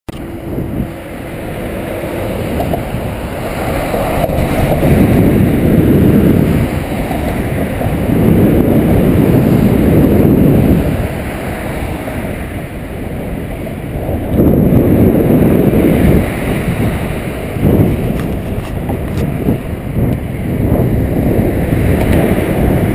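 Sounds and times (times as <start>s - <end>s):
road traffic passing: 0.1s - 22.9s
wind rumbling on microphone: 0.1s - 22.9s.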